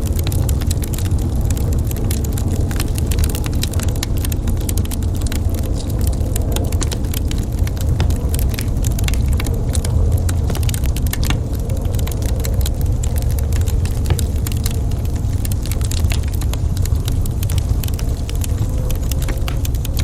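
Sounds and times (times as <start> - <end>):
flames rumbling: 0.0 - 20.0
logs crackling and popping: 0.0 - 20.0.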